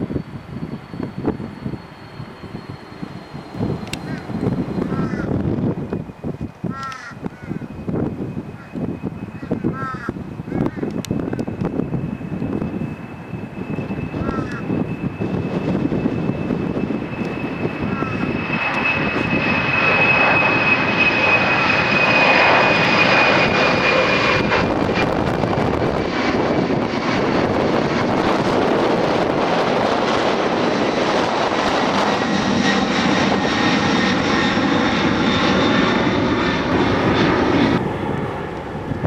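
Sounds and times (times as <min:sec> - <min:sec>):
jet airliner taking off: 0:00.0 - 0:39.0.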